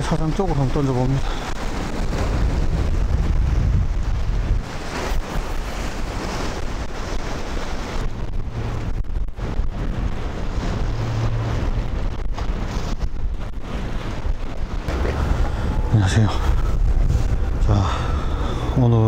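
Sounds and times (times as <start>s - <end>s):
surf on a beach: 0.0s - 19.0s
wind buffeting microphone: 0.0s - 19.0s.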